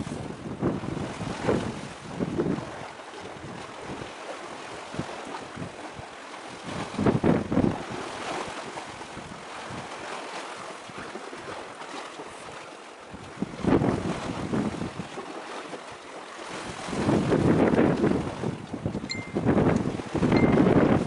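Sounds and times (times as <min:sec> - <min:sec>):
wind buffeting microphone: 0:00.0 - 0:15.8, 0:16.4 - 0:21.0.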